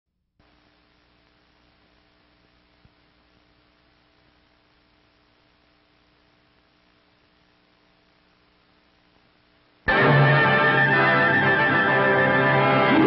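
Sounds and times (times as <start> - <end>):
film soundtrack hiss and hum: 0.1 - 13.0.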